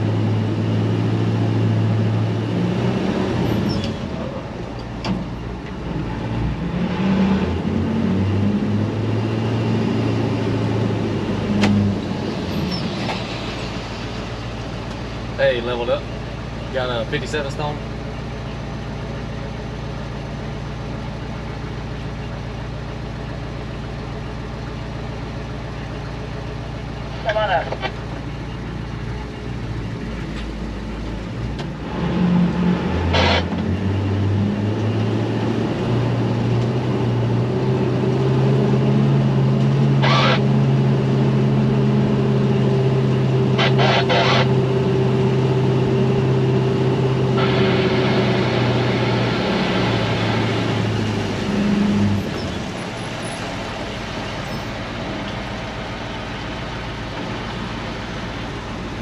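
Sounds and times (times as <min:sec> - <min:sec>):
diesel truck engine revving: 0:00.0 - 0:21.8, 0:26.6 - 0:59.0.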